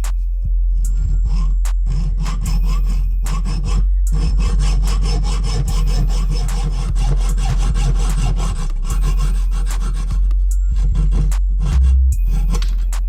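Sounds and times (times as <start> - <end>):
tool scraping metal: 0.8 - 13.0.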